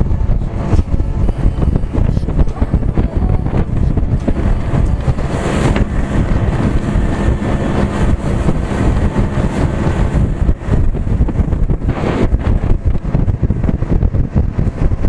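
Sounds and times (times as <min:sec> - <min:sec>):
water rushing and spraying: 0:00.0 - 0:14.0
hull pounding through waves: 0:00.0 - 0:15.0
outboard motor drone: 0:00.0 - 0:15.0
wind on microphone: 0:00.0 - 0:15.0.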